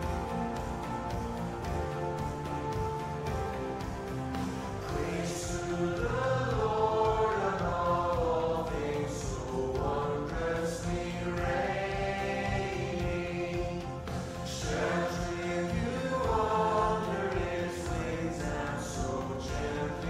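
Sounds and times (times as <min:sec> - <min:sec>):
congregation singing a hymn: 0:00.0 - 0:20.0
instrumental accompaniment: 0:00.0 - 0:20.0.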